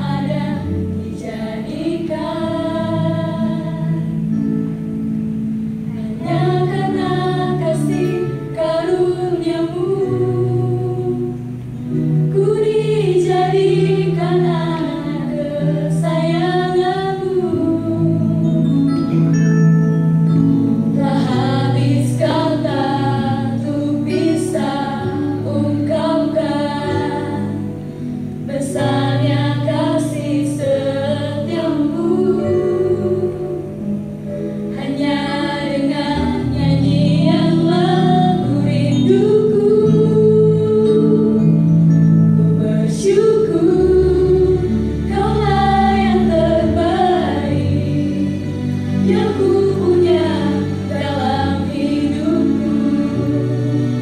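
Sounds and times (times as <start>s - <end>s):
women singing gospel in harmony: 0.0s - 4.3s, 5.9s - 11.4s, 12.3s - 18.8s, 20.9s - 27.8s, 28.4s - 33.8s, 34.7s - 41.7s, 42.4s - 54.0s
sustained keyboard chords: 0.0s - 54.0s.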